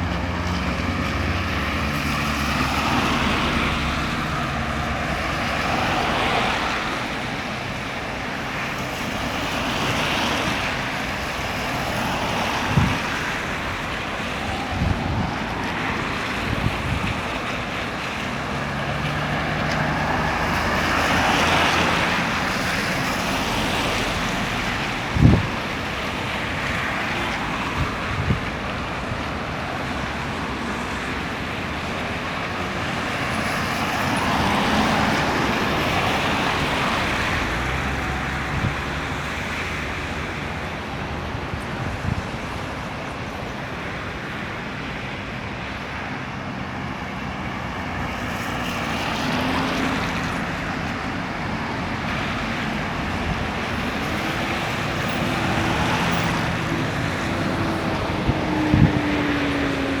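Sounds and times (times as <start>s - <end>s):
cars passing: 0.0s - 60.0s.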